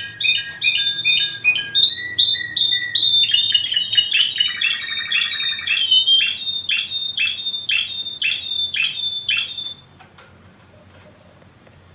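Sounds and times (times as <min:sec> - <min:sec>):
canary singing: 0:00.0 - 0:09.9.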